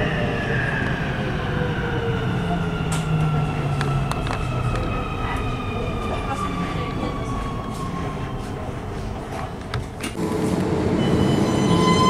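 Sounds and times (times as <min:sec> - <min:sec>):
steady train rumble: 0:00.0 - 0:12.0.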